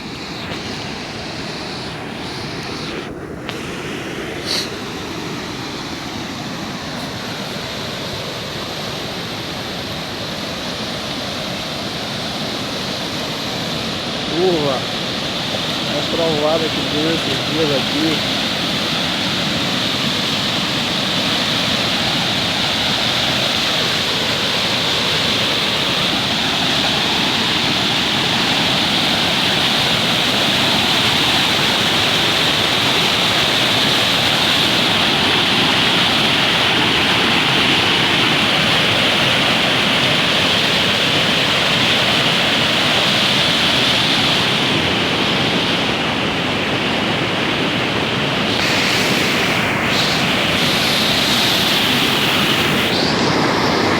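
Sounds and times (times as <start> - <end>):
river rushing in flood: 0.0 - 53.9.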